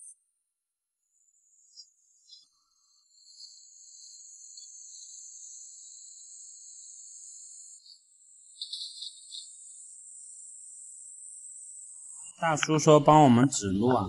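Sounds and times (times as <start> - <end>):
forest insects buzzing: 1.0 - 12.4.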